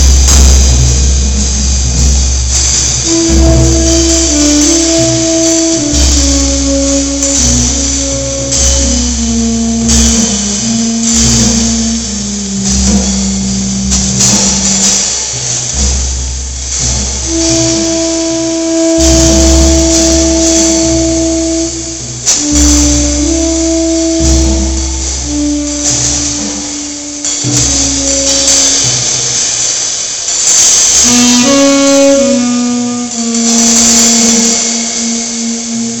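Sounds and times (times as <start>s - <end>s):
cymbals shimmering: 0.0s - 36.0s
low drums rumbling: 0.0s - 36.0s
tenor saxophone playing: 3.0s - 15.2s, 17.2s - 29.4s, 30.8s - 36.0s.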